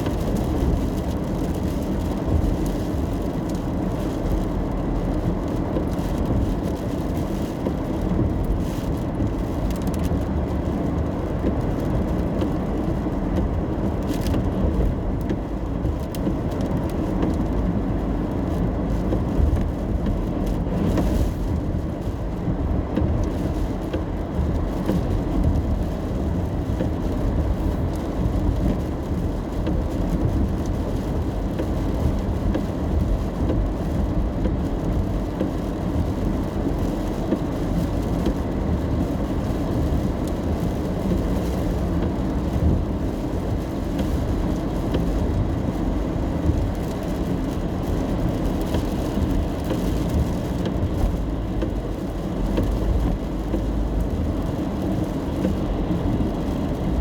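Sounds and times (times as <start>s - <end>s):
car road and engine noise: 0.0s - 57.0s
rain on car: 0.0s - 57.0s.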